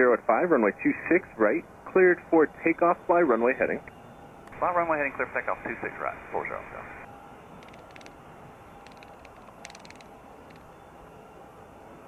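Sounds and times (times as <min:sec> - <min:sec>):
jet engines rumbling with whine: 0:00.0 - 0:12.0.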